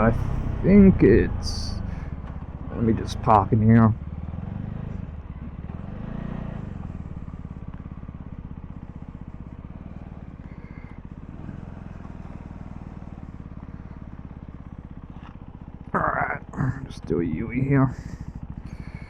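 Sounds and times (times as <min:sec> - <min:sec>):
motorcycle engine running at low revs: 0:00.0 - 0:19.0.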